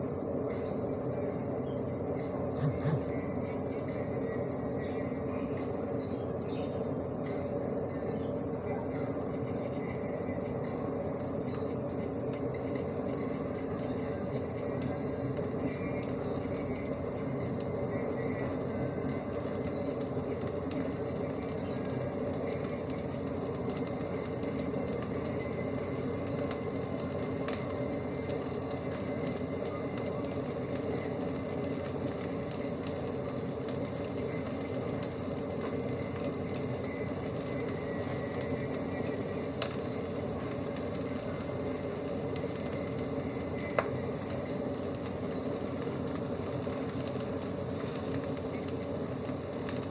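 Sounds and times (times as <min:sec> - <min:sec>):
mince sizzling in a wok: 0:00.0 - 0:49.9.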